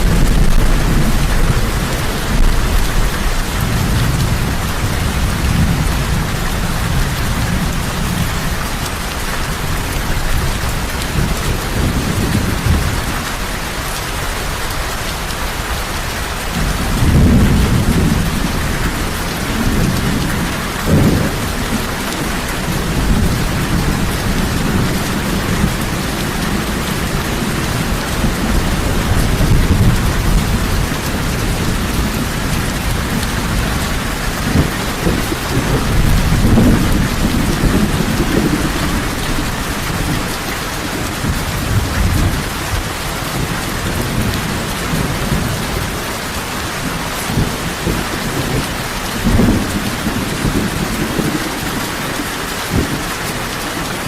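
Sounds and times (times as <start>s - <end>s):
low thunder rumbling: 0.0s - 13.7s, 14.5s - 54.0s
heavy rain falling: 0.0s - 54.0s.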